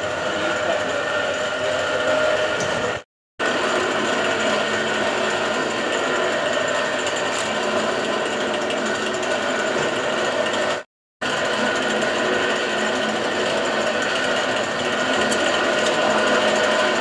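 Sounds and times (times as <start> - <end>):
drill press motor whine: 0.0 - 17.0.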